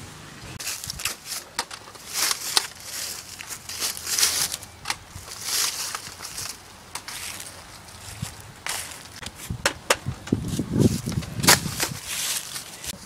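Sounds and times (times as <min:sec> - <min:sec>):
footsteps crunching dry leaves: 0:00.6 - 0:09.6, 0:10.3 - 0:13.0.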